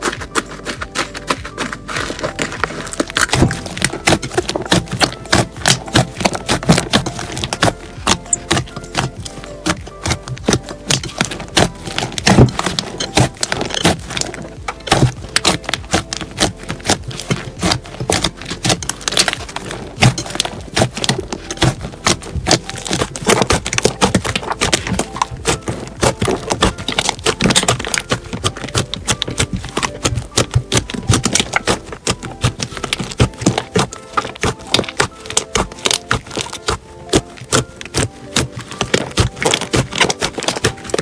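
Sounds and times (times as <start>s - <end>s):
slime crackling and popping: 0.0s - 41.0s.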